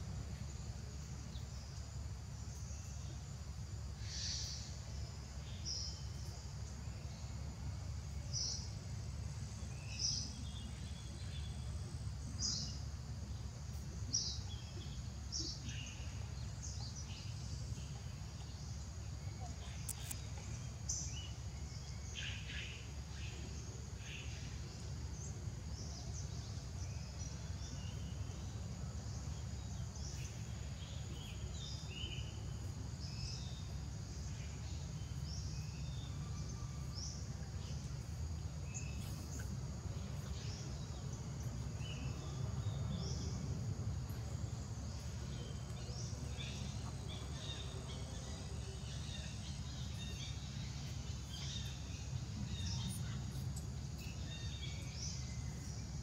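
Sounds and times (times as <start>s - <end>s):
high insect drone: 0.0s - 56.0s
low steady rumble: 0.0s - 56.0s.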